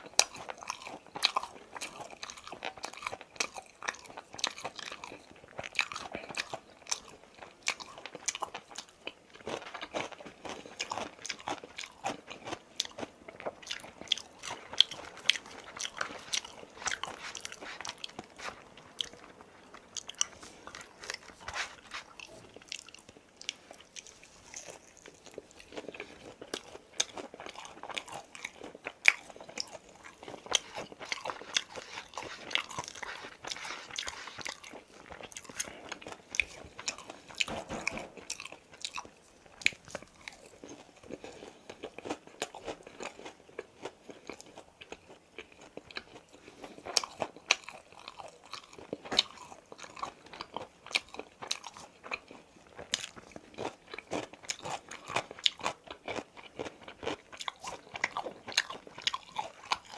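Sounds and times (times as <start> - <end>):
crunching fried chicken: 0.0 - 59.9
wet chewing: 0.0 - 59.9.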